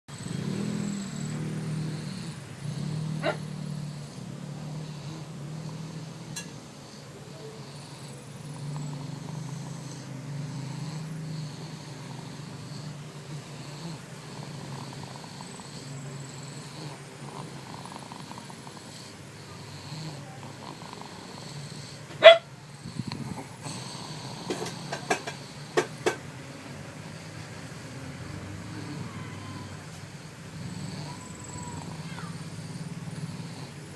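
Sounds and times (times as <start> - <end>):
baby snoring: 0.1 - 33.9.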